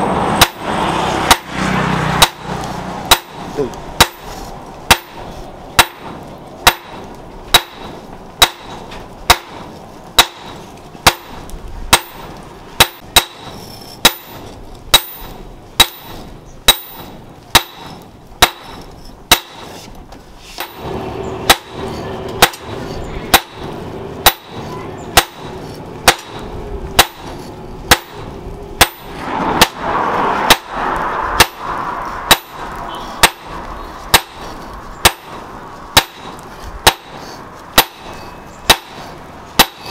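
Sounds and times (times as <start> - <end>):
hammer striking hot steel on anvil: 0.4 - 19.9, 20.6 - 39.9.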